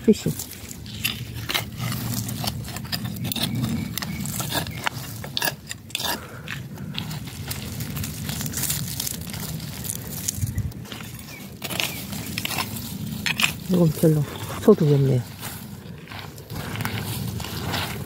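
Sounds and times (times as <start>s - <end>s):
digging in stony soil: 0.0s - 18.0s
steady low rumble: 0.0s - 18.0s
small stones clicking: 0.2s - 18.0s.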